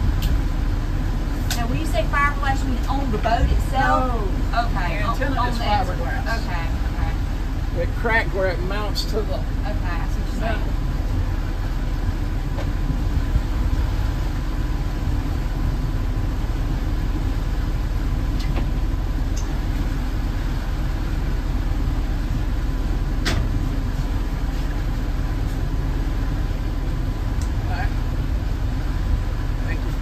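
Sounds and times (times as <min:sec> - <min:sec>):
boat engine droning: 0:00.0 - 0:30.0
faint steady whine: 0:00.0 - 0:30.0.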